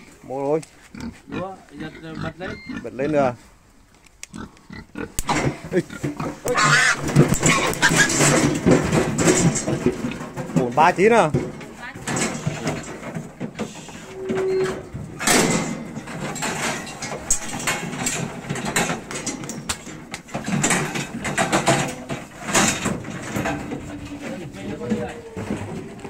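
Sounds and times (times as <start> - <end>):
pigs clattering in metal cage: 5.0 - 26.0.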